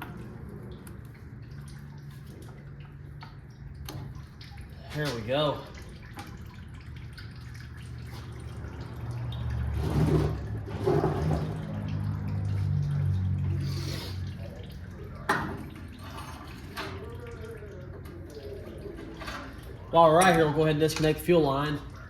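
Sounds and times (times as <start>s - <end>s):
fluid trickling into container: 0.0s - 22.0s.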